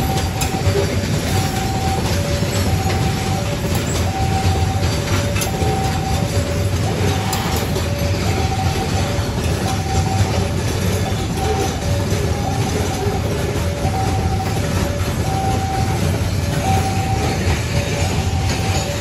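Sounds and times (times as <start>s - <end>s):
freight wagons rumbling over rails: 0.0s - 19.0s
two-note crossing alarm chime: 0.0s - 19.0s.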